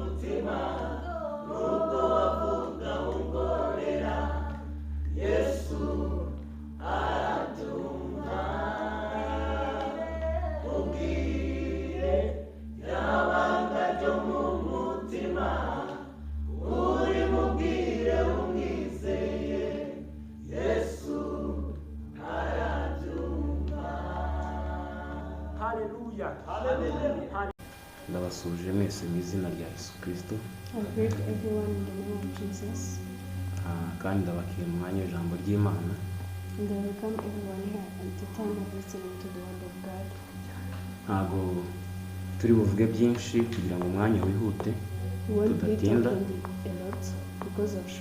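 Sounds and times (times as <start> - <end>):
group singing a hymn: 0.0 - 27.6, 28.6 - 48.0
low hum: 0.0 - 48.0.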